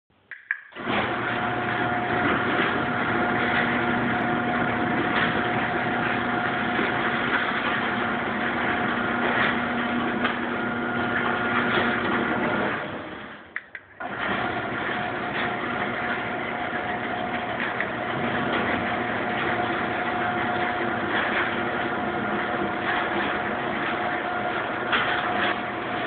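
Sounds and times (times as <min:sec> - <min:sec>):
garage door opener motor humming: 0:00.8 - 0:26.0.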